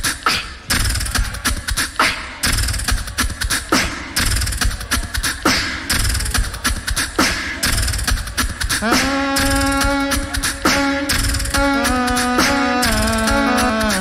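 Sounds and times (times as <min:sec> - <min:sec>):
beatbox loop with bass: 0:00.0 - 0:14.0.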